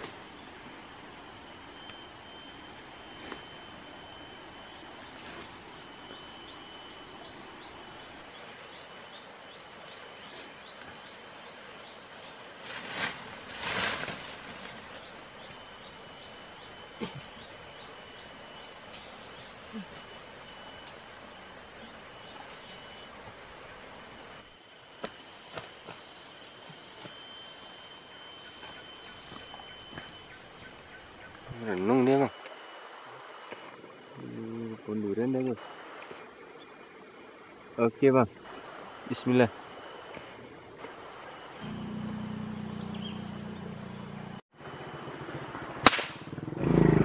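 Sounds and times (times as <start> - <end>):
insects chirping: 0.0 - 47.0.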